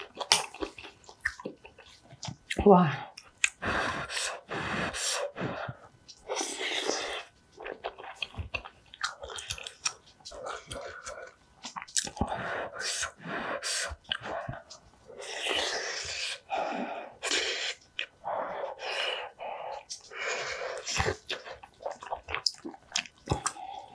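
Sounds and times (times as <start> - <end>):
mouth clicks and smacks: 0.0 - 3.6, 5.0 - 16.4, 19.6 - 23.9
person chewing rice: 0.0 - 23.9.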